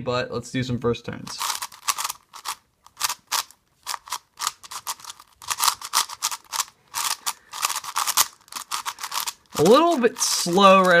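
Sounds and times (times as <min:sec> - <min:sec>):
speed cube clicking and scraping: 0:01.3 - 0:11.0.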